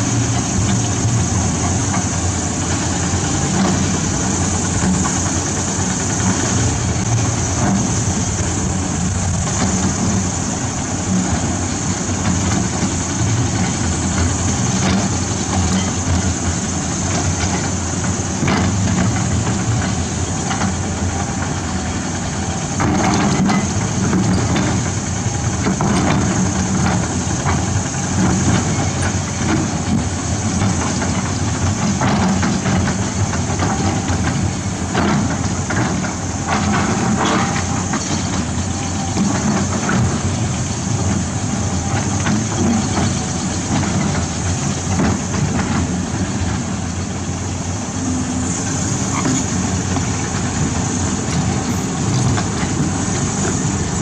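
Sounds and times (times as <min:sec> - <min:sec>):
excavator diesel engine running: 0:00.0 - 0:54.0
track links clanking: 0:00.0 - 0:54.0.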